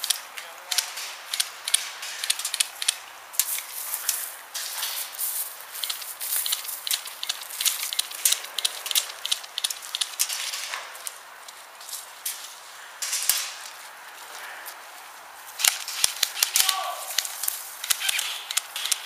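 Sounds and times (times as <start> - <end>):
dry grass crackling: 0.0 - 19.0.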